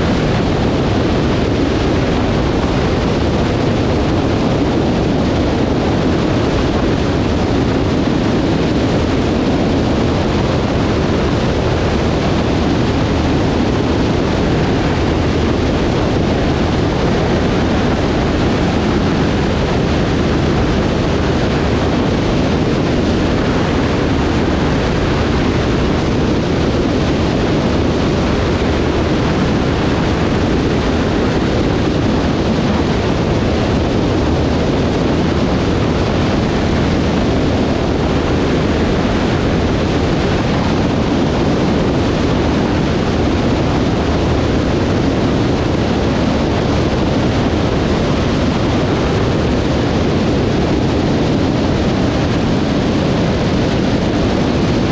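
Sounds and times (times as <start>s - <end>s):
aircraft engine: 0.0s - 54.9s
wind rushing over microphone: 0.0s - 54.9s.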